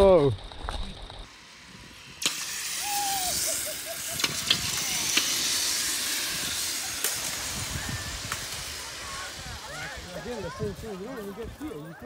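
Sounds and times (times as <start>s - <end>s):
high airy hiss: 1.3s - 11.8s.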